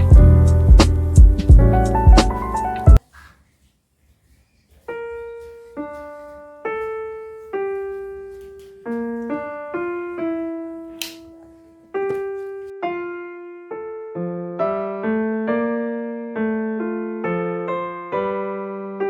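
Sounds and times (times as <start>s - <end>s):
slow gentle piano melody: 0.0s - 3.0s, 4.8s - 19.0s.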